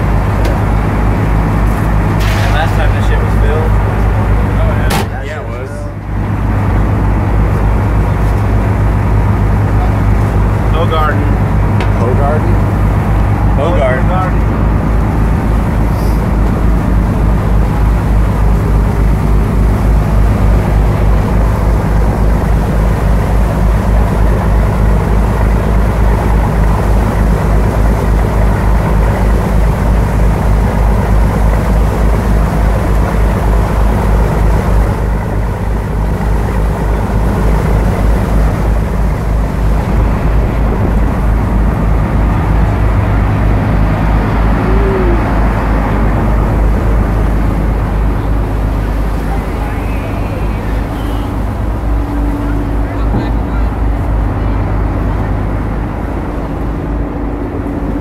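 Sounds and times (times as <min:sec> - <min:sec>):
boat engines droning: 0:00.0 - 0:58.0
wake water rushing: 0:00.0 - 0:58.0
wind: 0:00.0 - 0:58.0.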